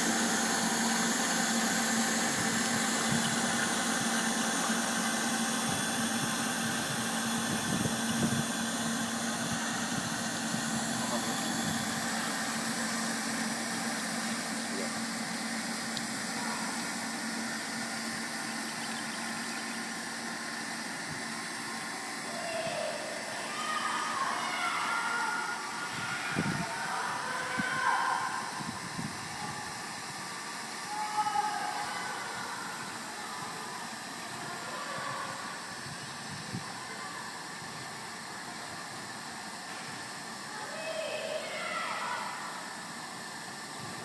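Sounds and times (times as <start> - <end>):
machinery humming and hissing: 0.0 - 44.0.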